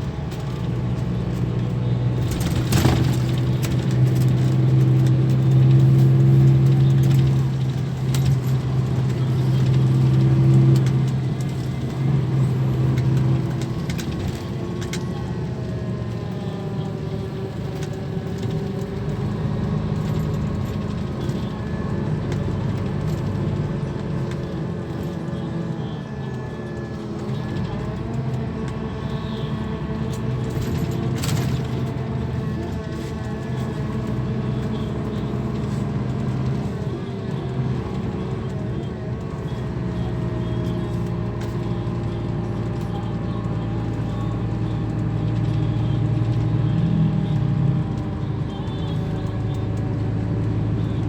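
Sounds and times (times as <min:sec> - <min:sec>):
coach diesel engine running: 0:00.0 - 0:51.0.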